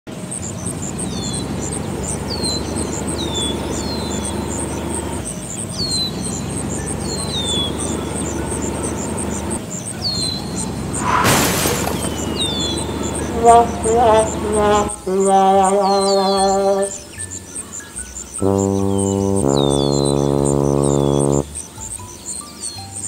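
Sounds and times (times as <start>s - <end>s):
birds chirping: 0.1s - 23.0s
insects chirping: 0.1s - 23.0s.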